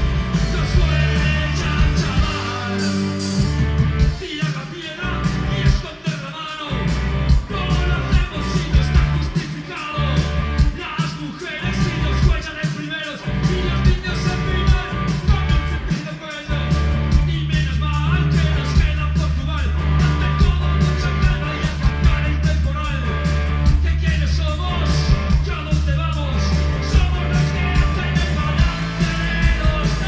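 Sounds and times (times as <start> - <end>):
person singing: 0.0 - 3.4, 4.1 - 30.0
bass guitar: 0.0 - 30.0
drum kit: 0.0 - 30.0
electric guitars: 0.0 - 30.0.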